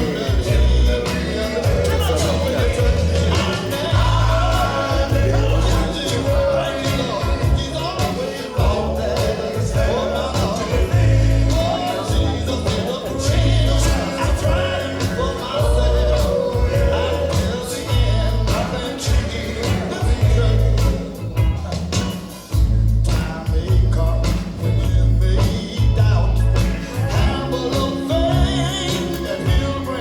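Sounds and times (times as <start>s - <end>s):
gospel band playing: 0.0s - 30.0s
wordless harmony singing: 0.0s - 30.0s.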